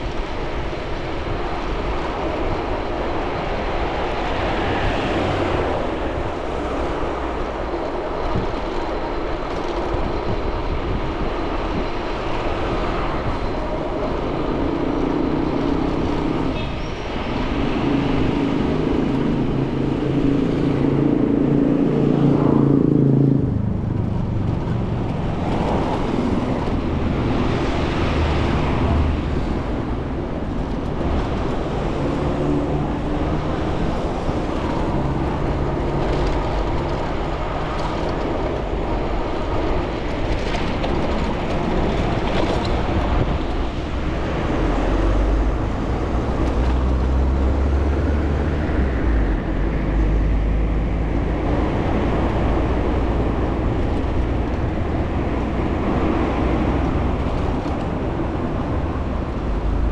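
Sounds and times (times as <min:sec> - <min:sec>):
car engines humming: 0:00.0 - 0:59.9
tyre and wind noise: 0:00.0 - 0:59.9.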